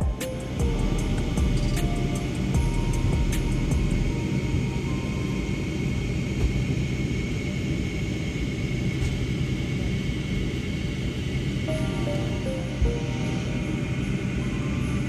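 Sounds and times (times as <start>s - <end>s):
airliner engines rumbling: 0.0s - 15.0s
high steady whine: 0.0s - 15.0s.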